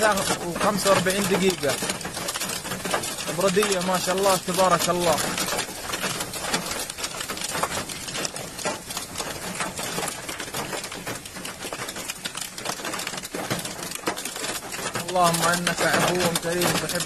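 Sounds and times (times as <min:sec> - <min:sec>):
hailstones clattering: 0:00.0 - 0:17.0.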